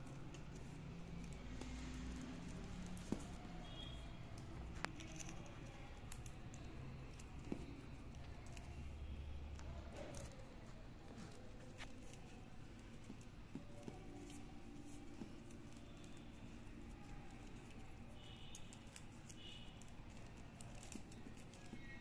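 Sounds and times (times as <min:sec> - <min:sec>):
plastic wire clicking and rustling: 0:00.0 - 0:22.0.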